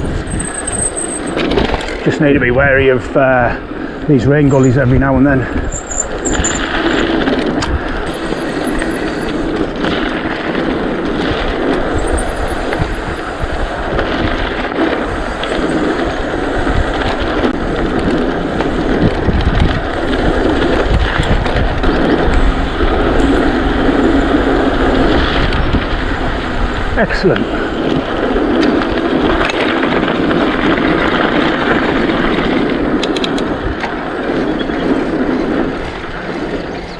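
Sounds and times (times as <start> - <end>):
bike tyre noise: 0.0 - 36.9
wind rushing over microphone: 0.0 - 36.9.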